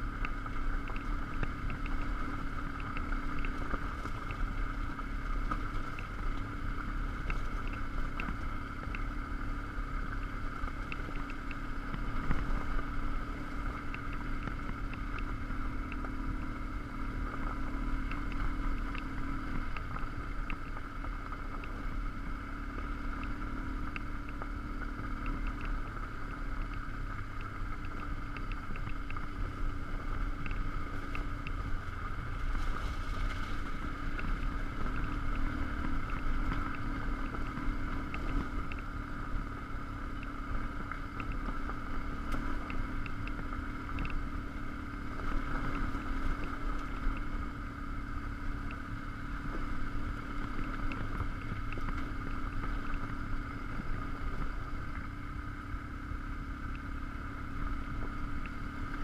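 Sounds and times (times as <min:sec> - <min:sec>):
light ticks: 0:00.0 - 0:59.0
motorcycle engine running: 0:00.0 - 0:59.0.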